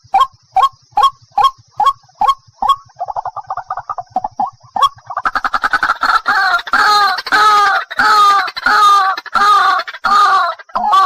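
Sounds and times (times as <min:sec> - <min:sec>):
waterhen calling: 0:00.0 - 0:11.0.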